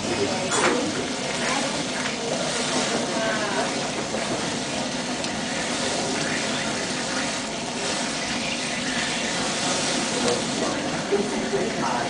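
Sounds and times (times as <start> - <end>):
flames burning: 0.0 - 12.0
sauce sizzling in a pan: 0.0 - 12.0.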